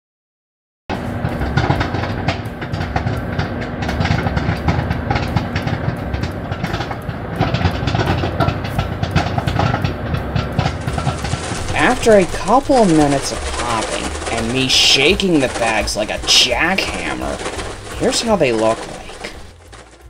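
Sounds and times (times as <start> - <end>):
microwave oven hum: 0.9 - 20.0
popcorn popping: 0.9 - 20.0.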